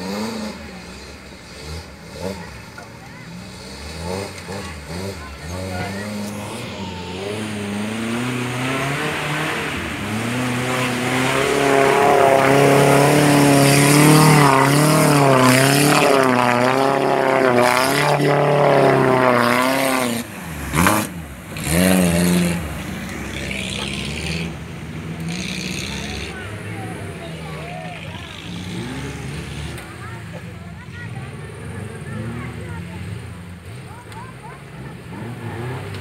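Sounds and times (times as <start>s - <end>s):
off-road engine revving hard: 0.0s - 36.0s.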